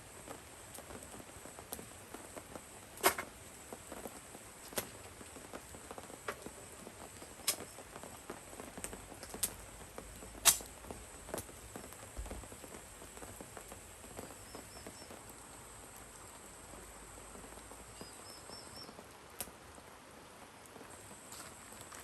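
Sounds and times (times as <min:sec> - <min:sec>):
raindrops tapping on a surface: 0:00.0 - 0:22.0
soft steady rain patter: 0:00.0 - 0:22.0.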